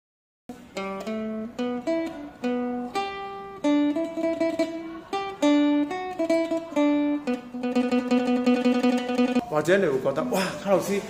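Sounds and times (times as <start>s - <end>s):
plucked lute melody: 0.5s - 9.5s.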